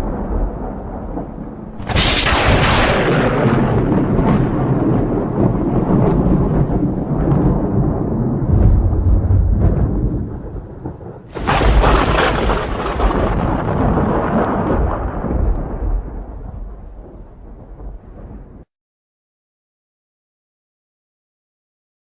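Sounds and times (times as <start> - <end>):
sharp thunder crack: 0.0 - 18.7
thunder rumbling: 0.0 - 18.7.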